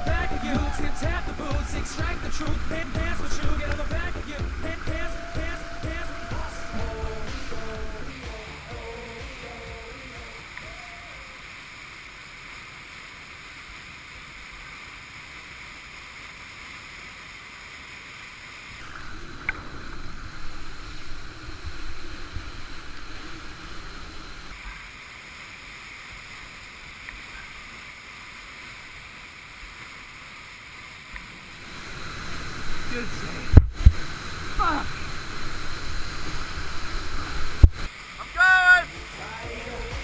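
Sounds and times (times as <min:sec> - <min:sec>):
whitewater rushing: 0:00.0 - 0:40.0.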